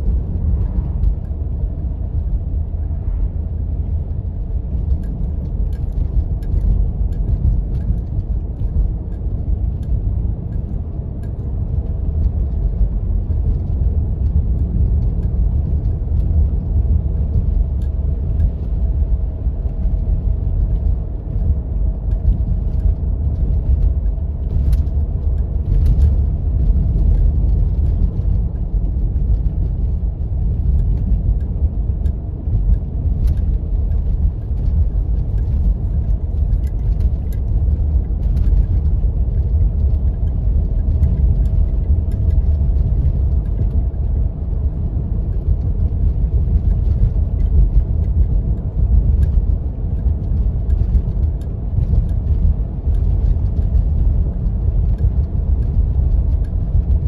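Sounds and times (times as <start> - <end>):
engine and tyres rumbling: 0.0 - 57.0
light clicks and ticks: 4.7 - 57.0.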